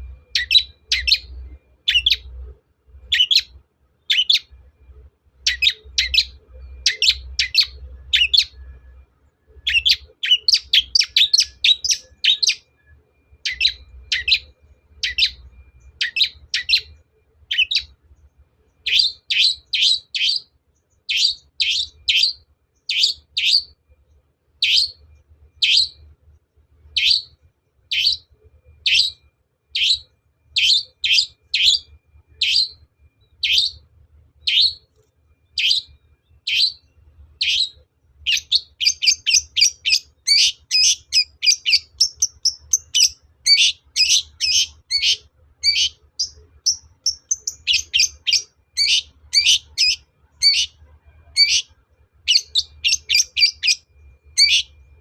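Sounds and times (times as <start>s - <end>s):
bird harsh calls: 0.0s - 4.5s, 5.4s - 8.6s, 9.6s - 12.8s, 13.4s - 17.9s, 18.7s - 23.8s, 24.6s - 25.0s, 25.6s - 26.0s, 27.0s - 32.8s, 33.4s - 33.8s, 34.4s - 34.9s, 35.5s - 54.8s.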